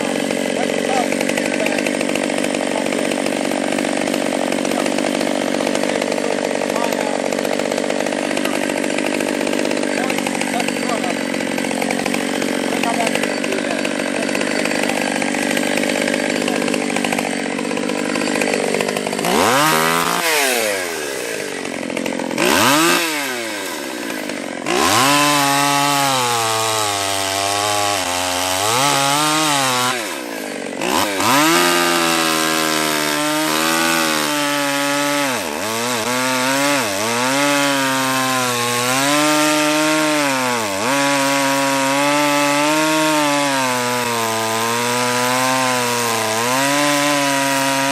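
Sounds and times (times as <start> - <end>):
chainsaw cutting branches: 0.0 - 47.9.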